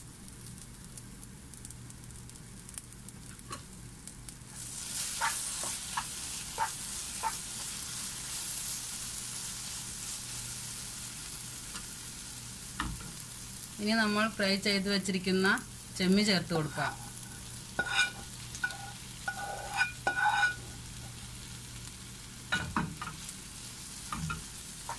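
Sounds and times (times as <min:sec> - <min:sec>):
food sizzling in a pan: 0:00.0 - 0:24.9.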